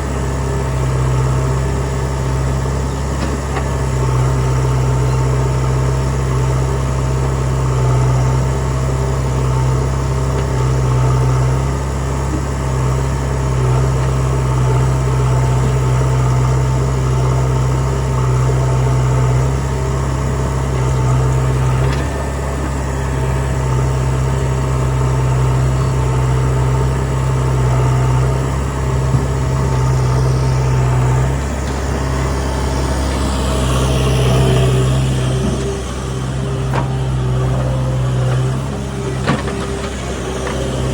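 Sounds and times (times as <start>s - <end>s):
diesel engine humming: 0.0s - 40.9s.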